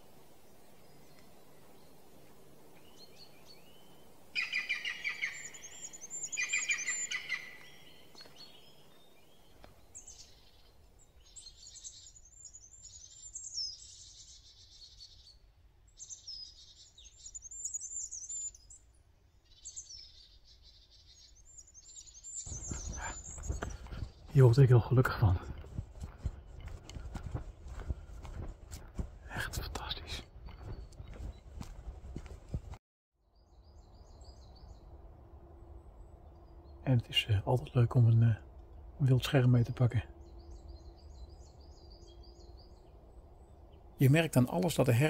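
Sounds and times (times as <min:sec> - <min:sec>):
small songbirds chirping: 0:00.0 - 0:45.0.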